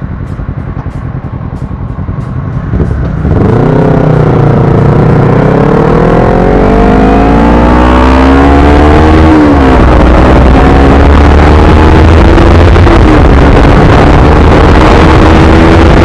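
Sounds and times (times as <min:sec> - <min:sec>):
motorcycle engine accelerating: 0:00.0 - 0:16.0
wind rumble on microphone: 0:02.6 - 0:16.0.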